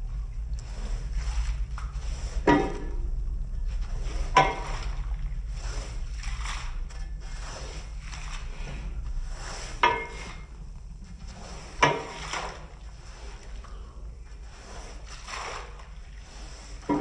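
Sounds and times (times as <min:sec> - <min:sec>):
steady low hum: 0:00.0 - 0:17.0
swishing brush strokes: 0:00.0 - 0:17.0.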